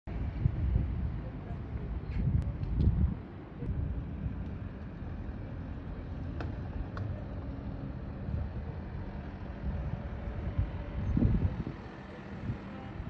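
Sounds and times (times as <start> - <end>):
wind rumbling on microphone: 0.1 - 13.0.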